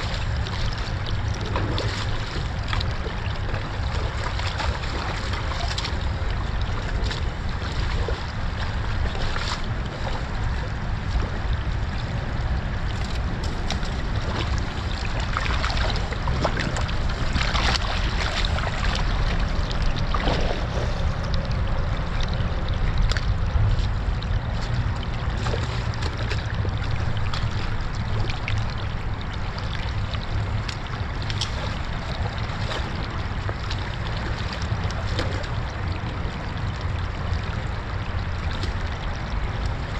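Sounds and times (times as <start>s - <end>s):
creek water rushing over sticks: 0.0s - 39.9s
low wind rumble on microphone: 0.0s - 39.9s
water splashes: 0.0s - 39.9s.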